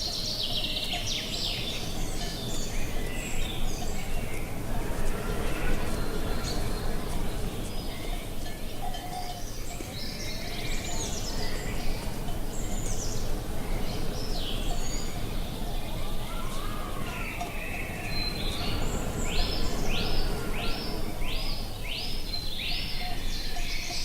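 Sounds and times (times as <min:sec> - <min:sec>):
birds calling and chirping: 0:00.0 - 0:24.0
wind rumble: 0:01.2 - 0:24.0.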